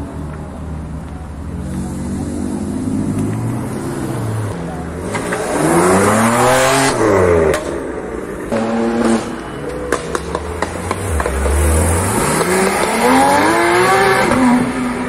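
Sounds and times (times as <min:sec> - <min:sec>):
sports car engines accelerating: 0:00.0 - 0:15.0.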